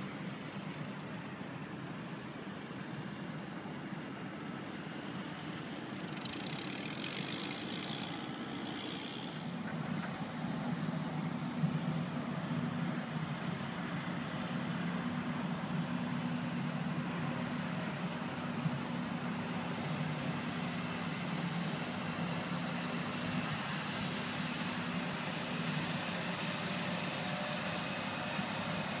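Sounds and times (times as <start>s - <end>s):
low rumble of distant engines: 0.0s - 29.0s.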